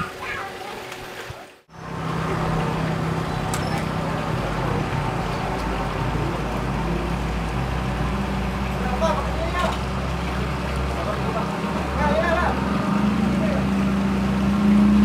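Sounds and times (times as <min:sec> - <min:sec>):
outdoor noise hiss: 0:00.0 - 0:15.0.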